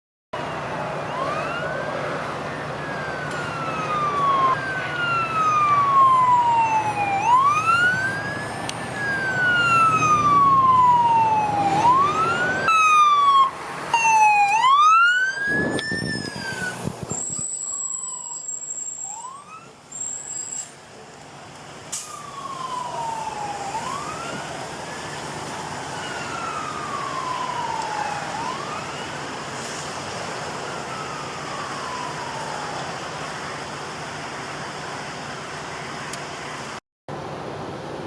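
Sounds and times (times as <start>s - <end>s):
fire truck siren wailing: 0.4s - 20.1s, 21.8s - 36.2s
traffic rumble: 0.4s - 38.0s.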